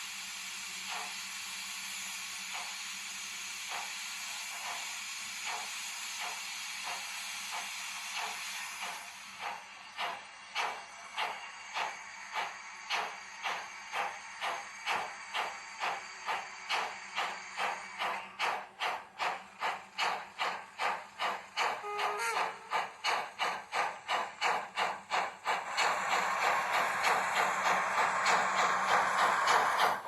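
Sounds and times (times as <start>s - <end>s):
steam hiss: 0.0s - 30.0s
steam locomotive chuffs from speaker: 0.1s - 30.0s.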